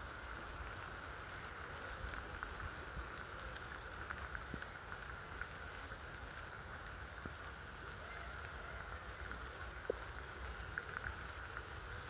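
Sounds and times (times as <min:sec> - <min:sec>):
light rain on leaves: 0:00.0 - 0:12.0.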